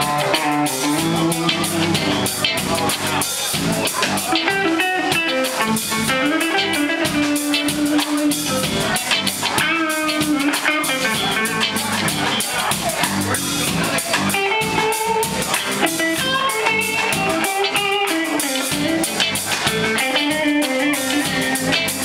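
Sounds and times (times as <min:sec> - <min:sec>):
bass guitar: 0:00.0 - 0:22.0
drum kit beat: 0:00.0 - 0:22.0
electric guitars: 0:00.0 - 0:22.0.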